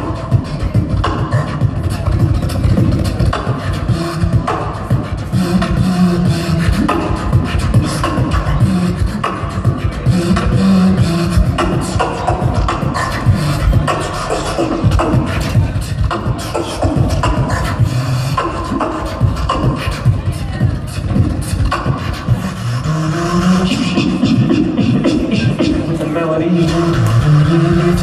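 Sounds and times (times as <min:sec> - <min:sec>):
beatboxing: 0:00.0 - 0:28.0.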